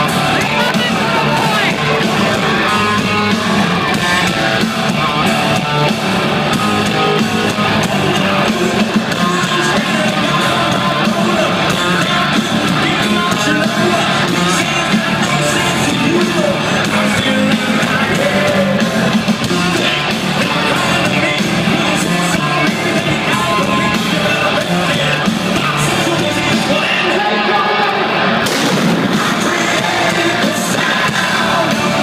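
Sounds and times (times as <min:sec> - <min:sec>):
distorted electric guitars: 0:00.0 - 0:32.0
drums: 0:00.0 - 0:32.0
lead vocal singing: 0:00.0 - 0:32.0.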